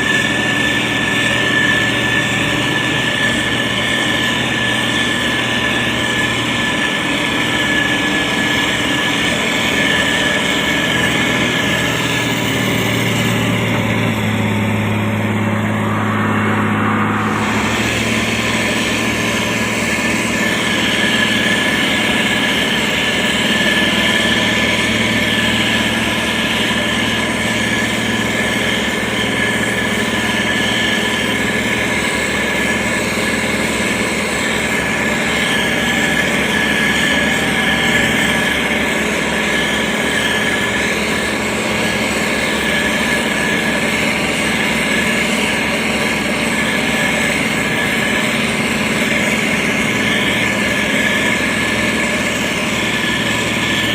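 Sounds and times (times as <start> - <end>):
diesel engine running: 0.0 - 53.9
high whine: 0.0 - 53.9.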